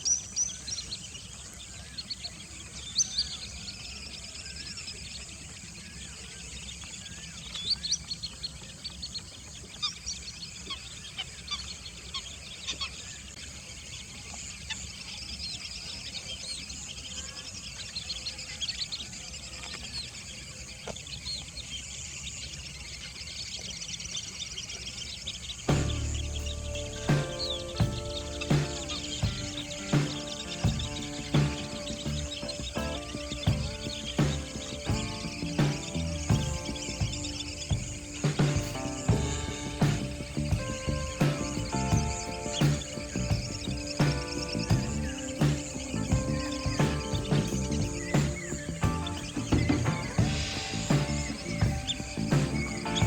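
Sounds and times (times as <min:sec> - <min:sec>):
birds chirping and calling: 0:00.0 - 0:53.0
steady outdoor hiss: 0:00.0 - 0:53.0.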